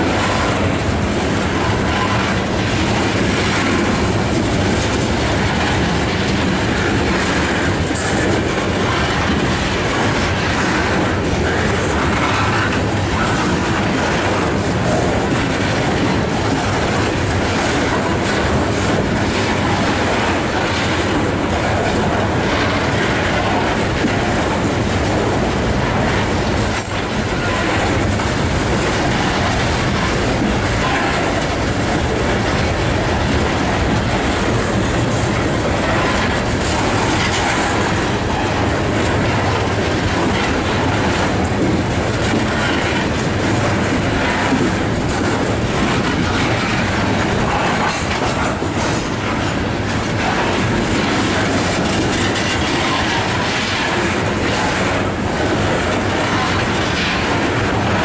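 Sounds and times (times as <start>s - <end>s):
freight train rumbling past: 0.0s - 58.0s
wheels clacking on rails: 0.0s - 58.0s.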